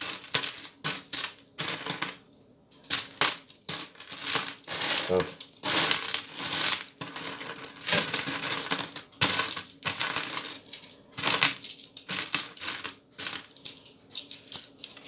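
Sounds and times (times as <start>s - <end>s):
coins clinking in plastic bowl: 0.0s - 15.0s.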